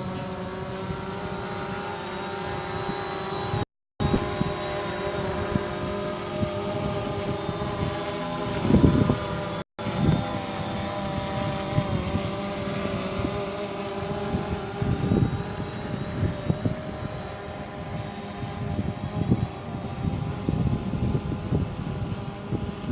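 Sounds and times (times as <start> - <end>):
motor running: 0.0 - 22.9.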